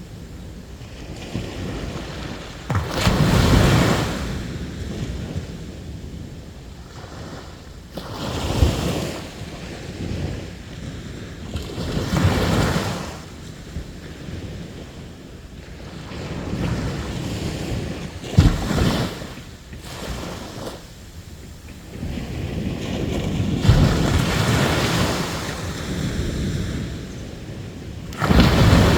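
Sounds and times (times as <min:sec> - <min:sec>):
sea waves breaking on shore: 0:00.0 - 0:28.9.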